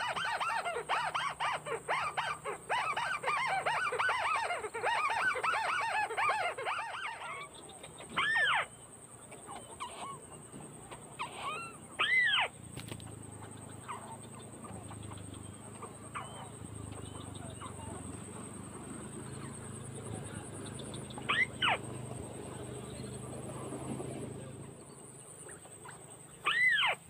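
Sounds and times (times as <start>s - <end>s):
bird chattering calls: 0.0s - 27.0s.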